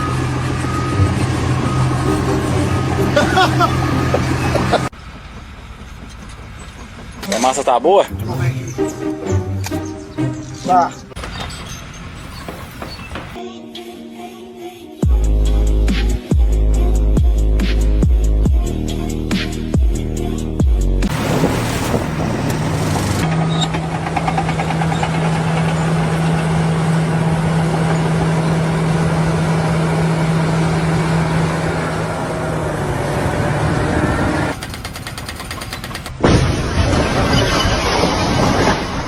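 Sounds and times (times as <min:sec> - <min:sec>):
construction machinery engine hum: 0:00.0 - 0:13.4, 0:21.1 - 0:39.0.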